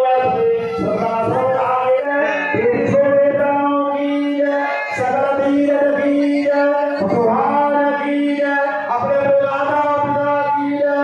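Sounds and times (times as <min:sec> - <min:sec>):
man singing a chant: 0:00.0 - 0:11.0.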